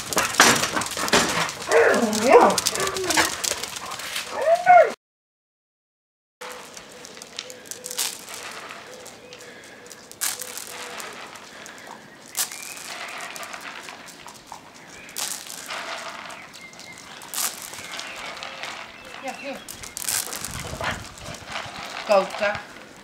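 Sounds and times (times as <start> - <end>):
dog paws scuffing on wet paving: 0.0 - 4.7, 6.4 - 23.0.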